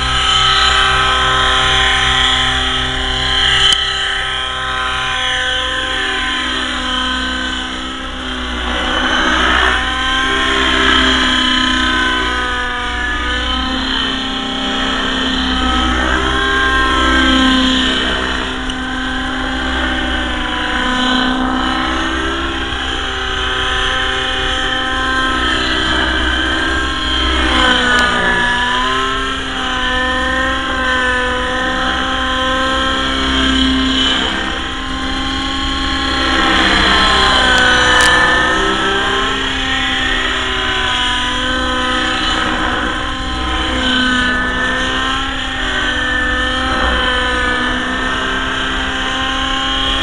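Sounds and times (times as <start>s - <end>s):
rc helicopter engine whining: 0.0s - 50.0s.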